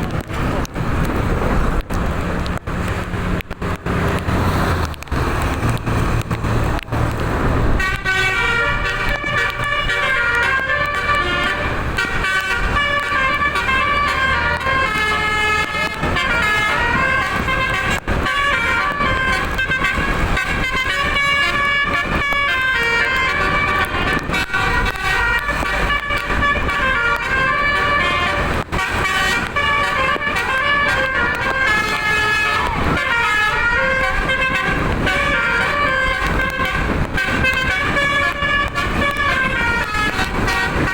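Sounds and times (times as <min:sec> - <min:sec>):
low engine rumble: 0:00.0 - 0:40.9
horn trumpets playing melody: 0:07.6 - 0:40.9.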